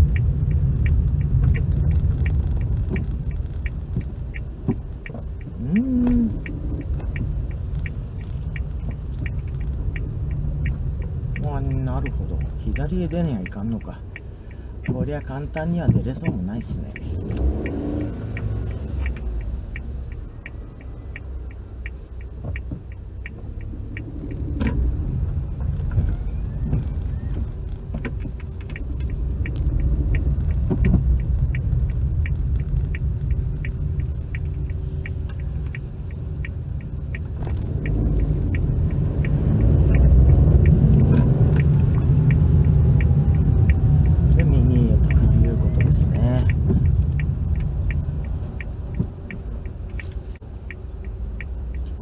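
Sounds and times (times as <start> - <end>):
road and engine rumble in car: 0.0 - 52.0
turn indicator ticking: 0.0 - 52.0.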